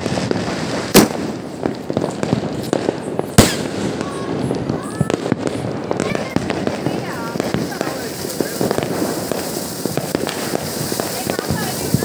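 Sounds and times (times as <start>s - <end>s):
firecrackers crackling: 0.0s - 12.0s
loud firework bangs: 0.0s - 12.0s.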